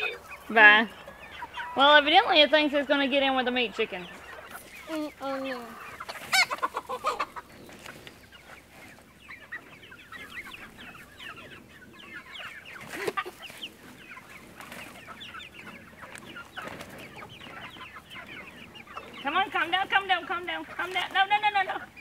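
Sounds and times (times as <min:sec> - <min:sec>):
chicken squawk: 0:00.0 - 0:02.5, 0:03.9 - 0:22.0
chickens clucking: 0:00.0 - 0:22.0.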